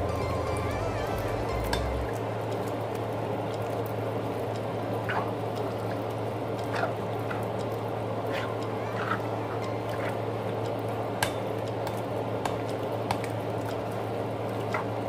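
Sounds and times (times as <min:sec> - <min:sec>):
constant low hum: 0:00.0 - 0:15.0
pot simmering with bubbling hiss: 0:00.0 - 0:15.0.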